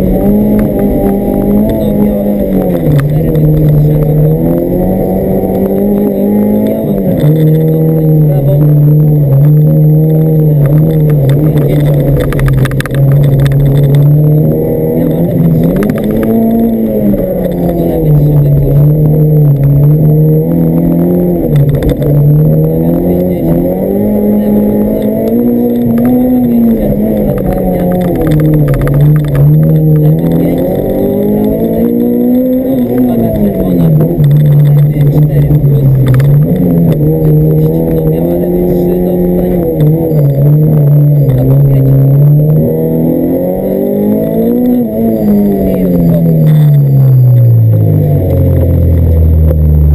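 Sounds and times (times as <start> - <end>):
car engine revving high: 0.0 - 49.9.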